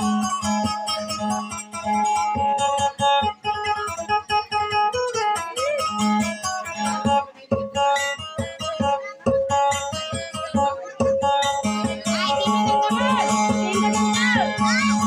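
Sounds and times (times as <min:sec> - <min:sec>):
acoustic guitar picked melody: 0:00.0 - 0:15.0.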